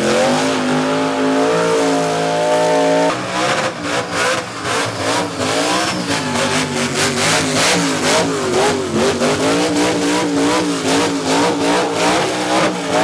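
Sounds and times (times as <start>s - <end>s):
vehicle engine revving hard: 0.0s - 13.0s.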